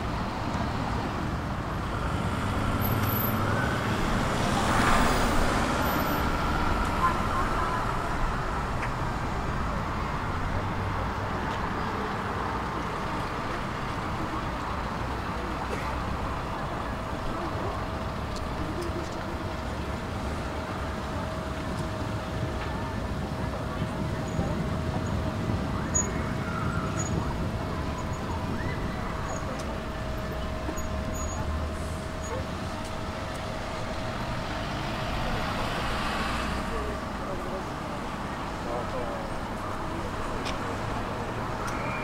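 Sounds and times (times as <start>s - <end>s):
cars driving past: 0.0s - 18.6s, 25.4s - 42.0s
steady traffic hum: 0.0s - 42.0s.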